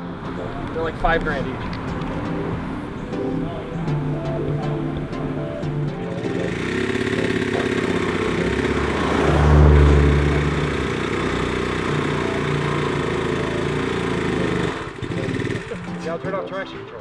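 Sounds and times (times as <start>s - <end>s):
engine revving: 0.0s - 16.3s.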